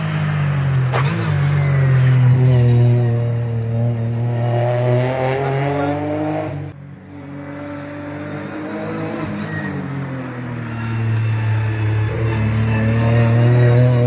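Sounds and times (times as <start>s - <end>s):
car engine accelerating hard: 0.0s - 14.0s
quieter engine rising in pitch: 0.0s - 14.0s.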